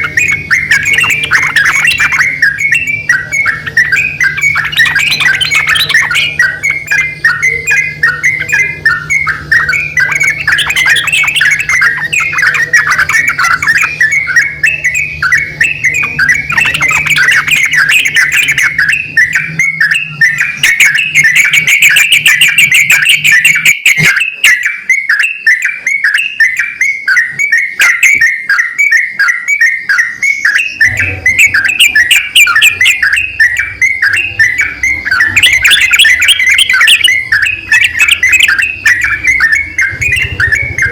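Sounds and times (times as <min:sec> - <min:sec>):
birds chattering: 0:00.0 - 0:40.9.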